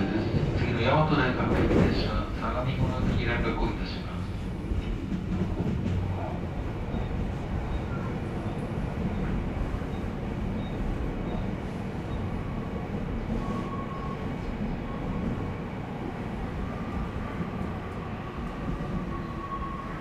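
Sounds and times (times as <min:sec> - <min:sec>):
electric train rail rumble: 0:00.0 - 0:20.0.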